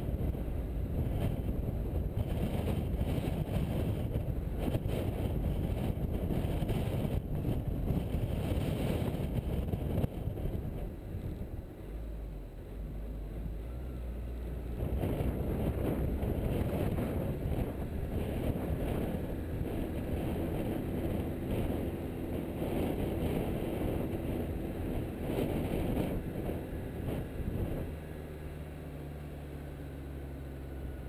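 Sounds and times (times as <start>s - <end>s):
wind on microphone: 0.0s - 12.0s, 13.3s - 31.0s
car tyre and engine noise: 0.0s - 31.0s.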